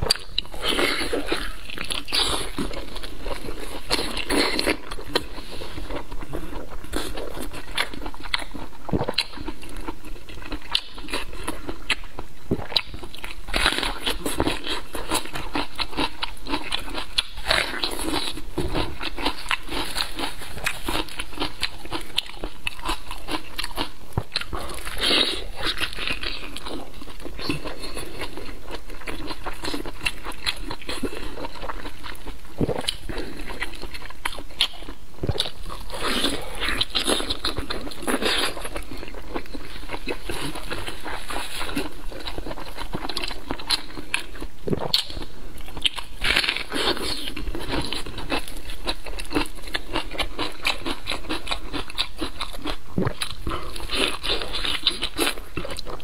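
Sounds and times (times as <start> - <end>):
person chewing wet food: 0.0 - 56.0.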